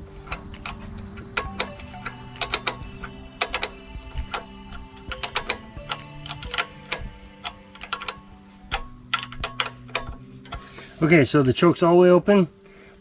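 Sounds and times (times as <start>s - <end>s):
background music with held chords: 0.0s - 13.0s
metallic clicks from hand tools: 0.2s - 11.1s.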